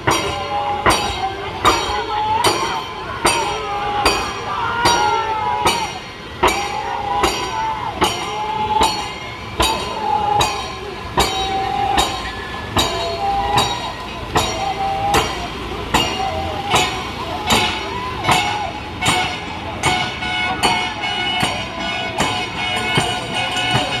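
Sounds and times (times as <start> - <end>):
crew chanting: 0.0 - 24.0
sharp rowing strikes: 0.0 - 24.0.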